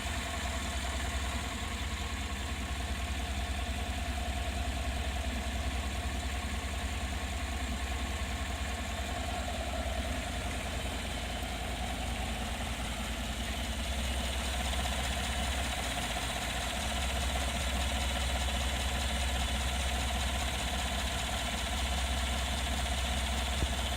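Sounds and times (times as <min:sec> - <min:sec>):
engine idling rumble: 0:00.0 - 0:23.9.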